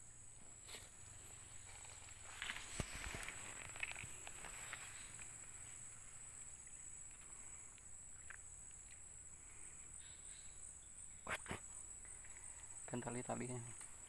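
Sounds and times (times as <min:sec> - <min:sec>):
crickets buzzing: 0:00.0 - 0:14.0
pulsing insect call: 0:00.0 - 0:14.0.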